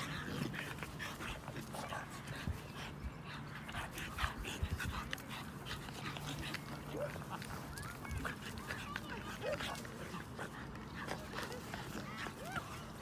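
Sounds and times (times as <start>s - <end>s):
puppies play-wrestling sounds: 0.0s - 13.0s.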